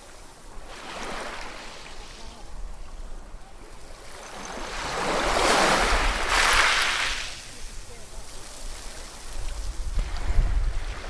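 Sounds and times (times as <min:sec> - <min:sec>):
ocean waves breaking: 0:00.0 - 0:11.0.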